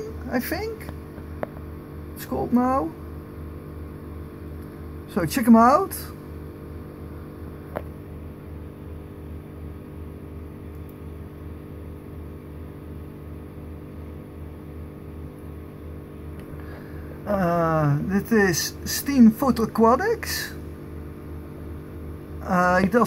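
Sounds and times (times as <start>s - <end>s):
electrical hum with low throb: 0.0s - 23.0s.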